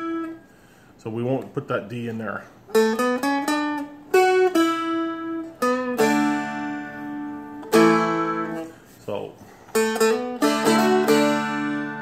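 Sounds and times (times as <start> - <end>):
acoustic guitar notes and chords: 0.0 - 1.5, 2.2 - 12.0.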